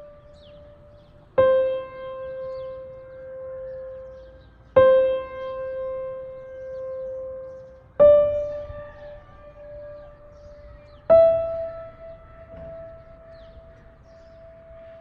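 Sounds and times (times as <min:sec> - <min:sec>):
slow sparse piano notes: 0:00.0 - 0:15.0.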